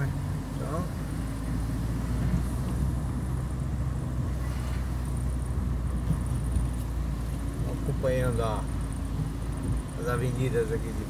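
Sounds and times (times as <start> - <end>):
car engine and tyre hum: 0.0 - 11.0.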